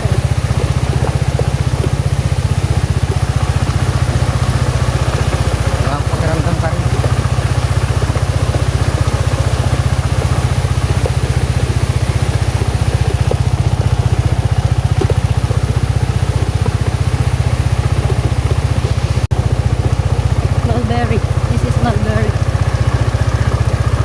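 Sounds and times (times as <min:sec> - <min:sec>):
engine running with low throb: 0:00.0 - 0:24.0.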